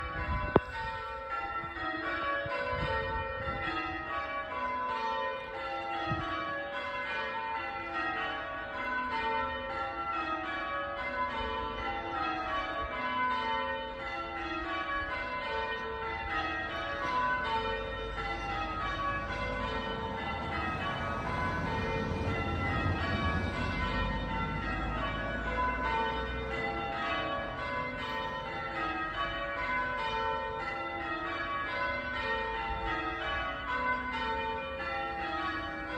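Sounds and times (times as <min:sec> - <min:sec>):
church bells change ringing: 0:00.0 - 0:35.9.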